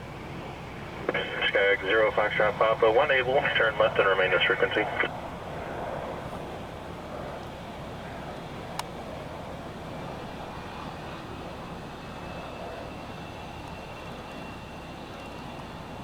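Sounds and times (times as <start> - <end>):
propeller engine running: 0.1 - 16.0.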